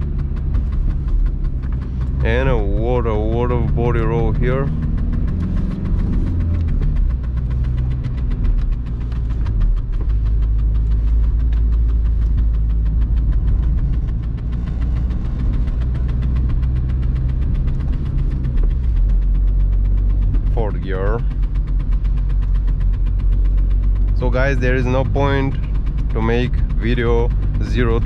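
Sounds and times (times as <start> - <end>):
diesel car engine drone: 0.0 - 28.0.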